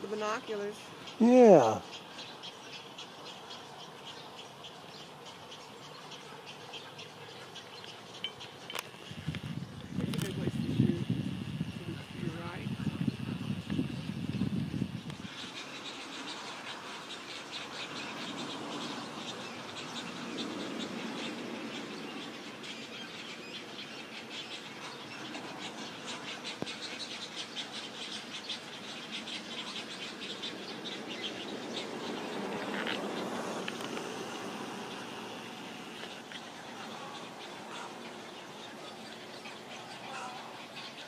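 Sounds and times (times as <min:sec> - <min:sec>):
outdoor background noise: 0:00.0 - 0:41.0
small birds chirping: 0:00.0 - 0:41.0.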